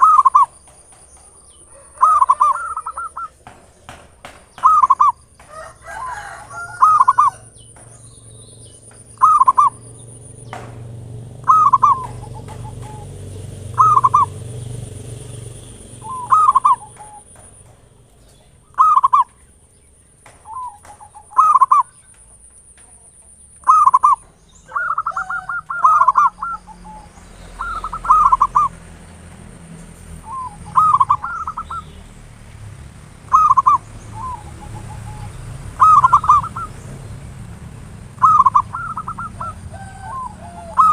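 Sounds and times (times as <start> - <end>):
dove cooing: 0.0 - 19.4, 20.3 - 22.2, 23.2 - 29.5, 30.2 - 32.0, 33.3 - 36.8, 38.2 - 40.9.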